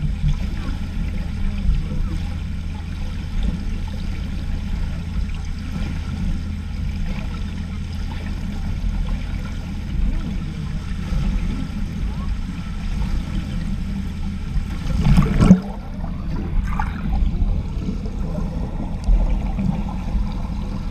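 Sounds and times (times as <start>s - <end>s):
underwater low rumble: 0.0s - 20.9s
water gurgling and sloshing: 0.0s - 20.9s.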